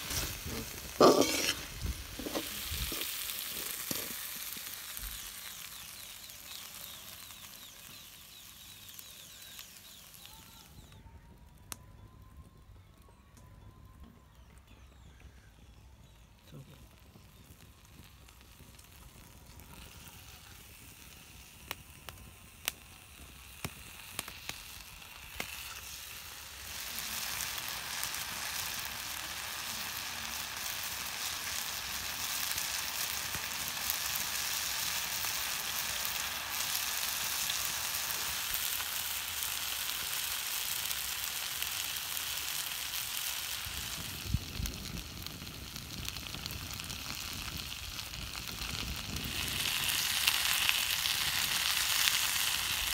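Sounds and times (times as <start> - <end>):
food sizzling in hot oil: 0.0 - 11.0, 16.8 - 52.9
oil crackles: 0.0 - 11.8, 16.1 - 52.9.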